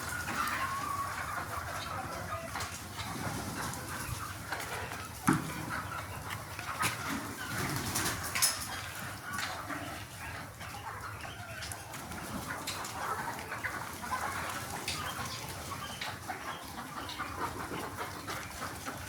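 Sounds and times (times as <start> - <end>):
chickens clucking and chirping: 0.0 - 19.0.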